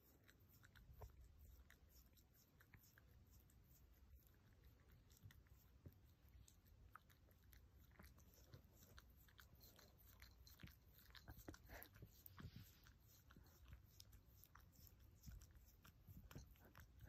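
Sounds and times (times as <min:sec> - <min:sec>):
dog licking wet clicks: 0:00.0 - 0:17.0.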